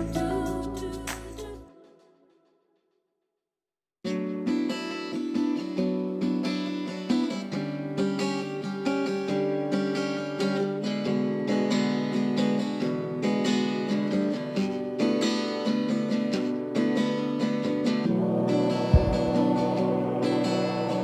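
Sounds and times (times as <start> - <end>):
strummed acoustic guitar: 4.1 - 21.0.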